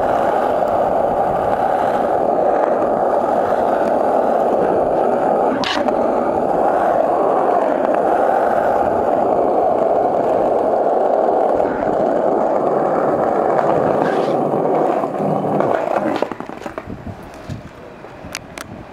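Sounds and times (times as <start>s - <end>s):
skateboard wheels rolling on asphalt: 0.0s - 18.9s.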